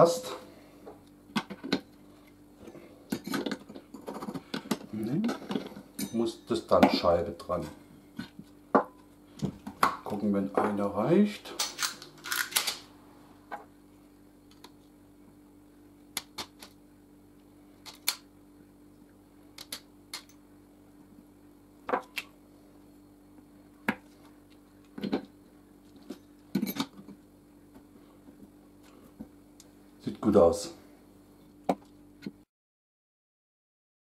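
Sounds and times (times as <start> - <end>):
faint steady hum: 0.0 - 32.5.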